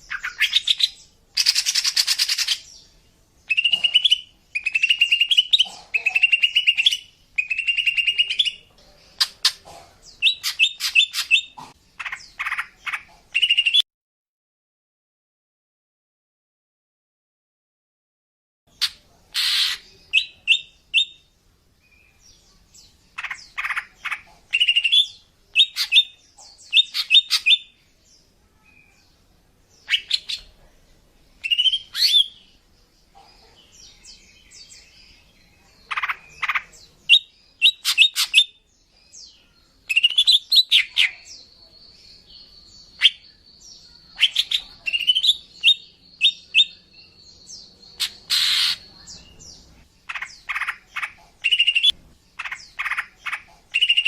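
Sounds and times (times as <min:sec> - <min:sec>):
bird chirping: 0:00.0 - 0:13.8, 0:18.7 - 0:54.0.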